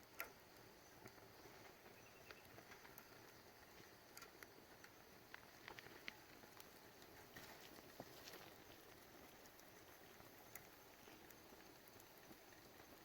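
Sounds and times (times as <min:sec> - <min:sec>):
low hiss: 0:00.0 - 0:13.0
wood fire crackling: 0:00.0 - 0:13.0.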